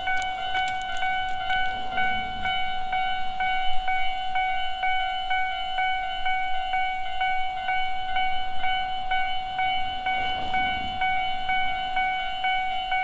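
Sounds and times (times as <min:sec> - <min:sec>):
level crossing alarm ringing: 0:00.0 - 0:13.0.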